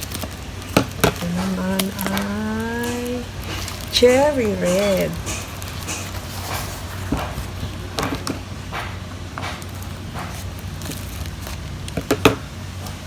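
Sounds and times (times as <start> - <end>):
packaging rustling and crackling: 0.0 - 13.0
steady low hum: 0.0 - 13.0.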